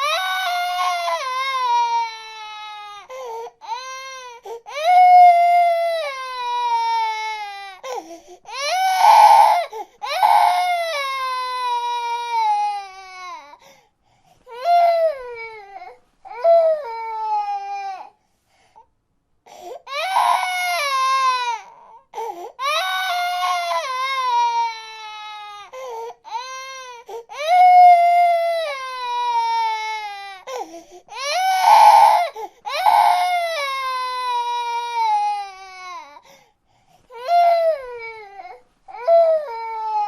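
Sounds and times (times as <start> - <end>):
baby crying: 0.0 - 13.6, 14.5 - 18.2, 19.6 - 36.2, 37.1 - 40.0.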